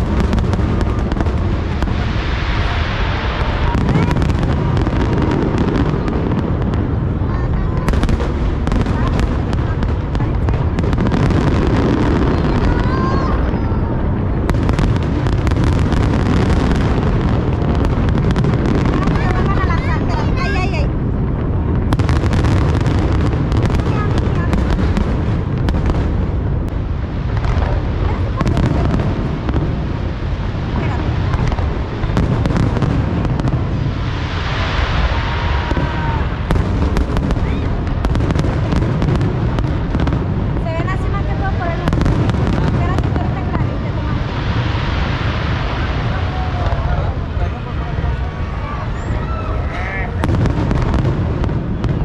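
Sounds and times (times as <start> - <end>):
fireworks booming: 0.0 - 52.0
fireworks crackling: 0.0 - 52.0.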